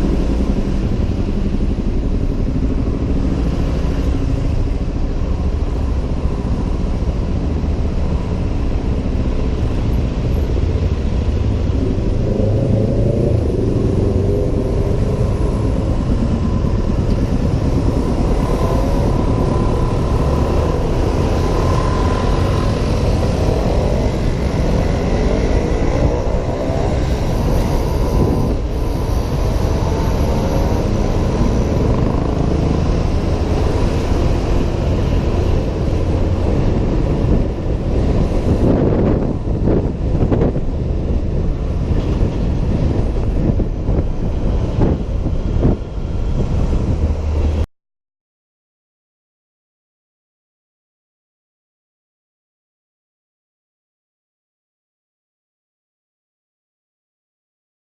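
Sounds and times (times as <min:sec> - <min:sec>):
road noise rumble: 0:00.0 - 0:47.7.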